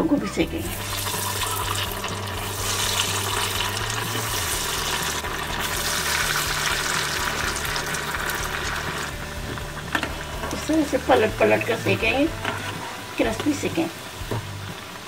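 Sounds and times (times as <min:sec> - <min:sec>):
food deep-frying in sizzling oil: 0:00.5 - 0:15.0.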